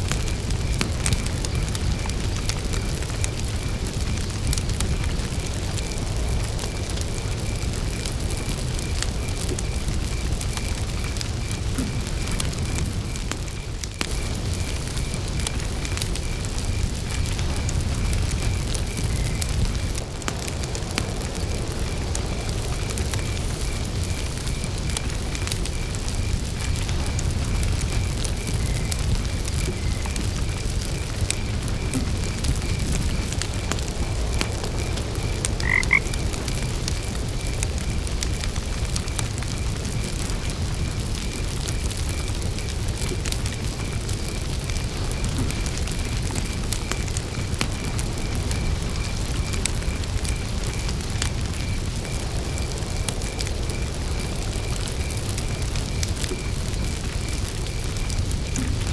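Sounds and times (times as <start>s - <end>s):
campfire crackling: 0.0s - 58.9s
crickets chirping: 0.0s - 58.9s
frogs croaking: 0.1s - 58.9s.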